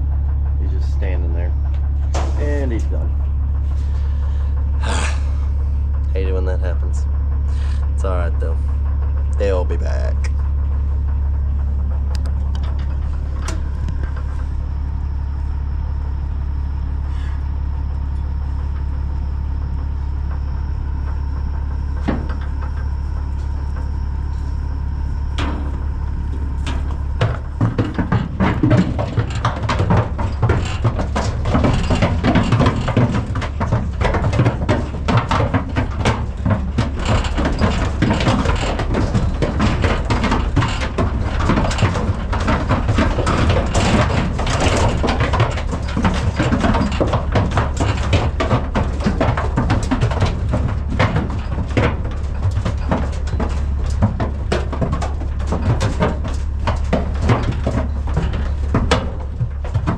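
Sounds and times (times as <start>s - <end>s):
hooves knocking on metal trailer: 0.0s - 59.9s
steady low hum: 0.0s - 59.9s.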